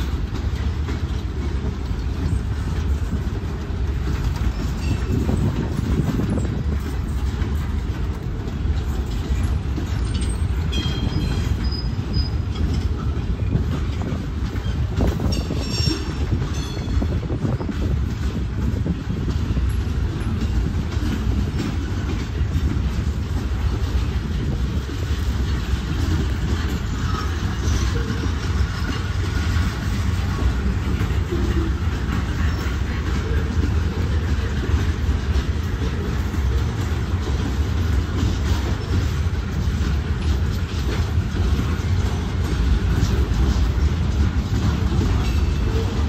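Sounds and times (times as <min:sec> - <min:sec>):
freight train cars rumbling: 0:00.0 - 0:46.0
wheels clattering over rail joints: 0:00.0 - 0:46.0.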